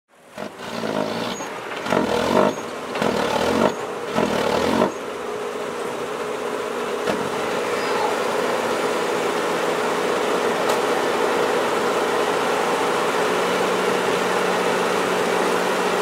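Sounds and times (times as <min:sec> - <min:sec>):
diesel truck engine revving: 0:00.2 - 0:16.0.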